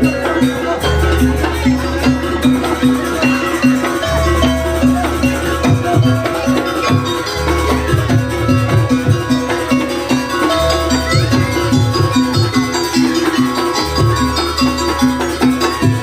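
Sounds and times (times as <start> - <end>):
drum strokes: 0.0 - 16.0
gamelan music: 0.0 - 16.0.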